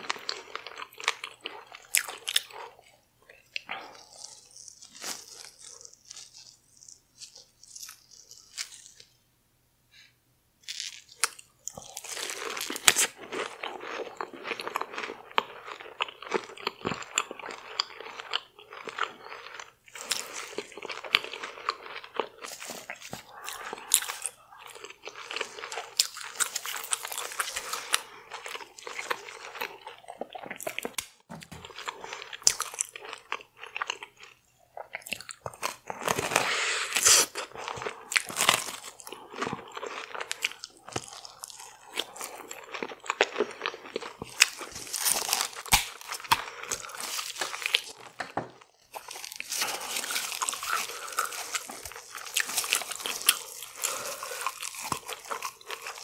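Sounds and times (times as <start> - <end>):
crunching and wet chewing: 0.0 - 9.1, 10.6 - 56.0.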